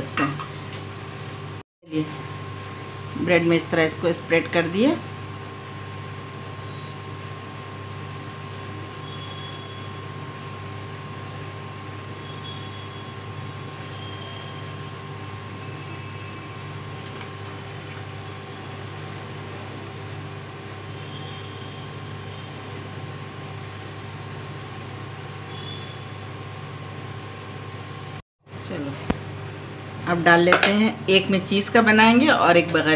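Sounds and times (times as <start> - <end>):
steady mechanical hum: 0.0 - 32.9.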